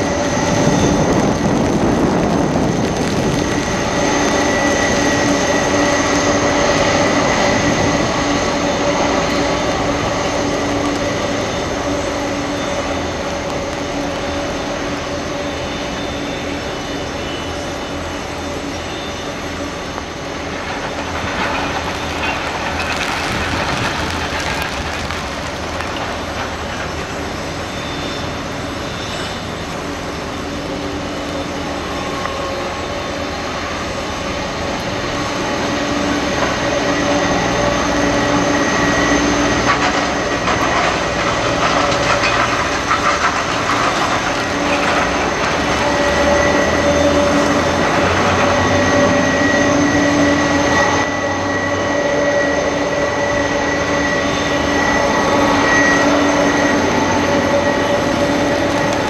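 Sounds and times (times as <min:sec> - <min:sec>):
jet engines rumbling and whining: 0:00.0 - 0:59.0.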